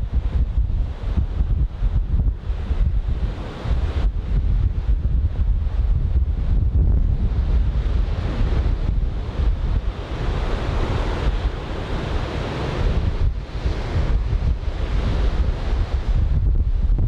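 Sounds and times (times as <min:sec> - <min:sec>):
wind buffeting microphone: 0:00.0 - 0:17.0
large surf breaking: 0:01.8 - 0:17.0.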